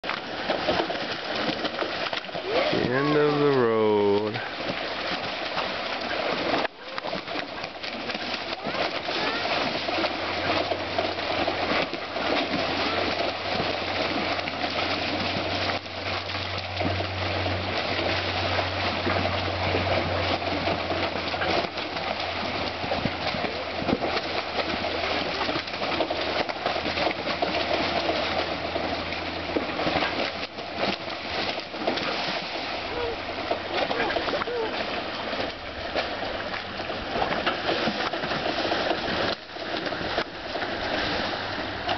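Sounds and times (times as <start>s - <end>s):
fish splashing and slapping: 0.0s - 41.9s
low steady hum: 0.0s - 41.9s
river water rushing through weir: 0.0s - 41.9s.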